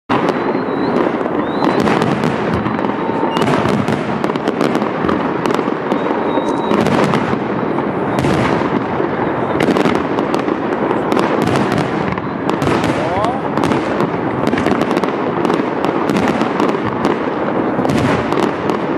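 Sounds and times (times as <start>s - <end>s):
fireworks crackling and banging: 0.1s - 18.9s.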